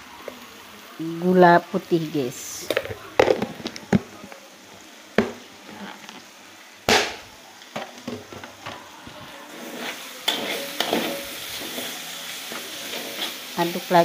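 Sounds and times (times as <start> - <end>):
paste sizzling in a wok: 0.0 - 14.0.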